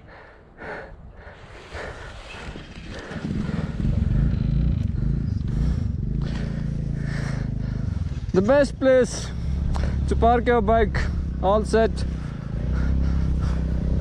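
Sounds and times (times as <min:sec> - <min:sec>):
small motorbike engine chugging: 0:02.6 - 0:14.0.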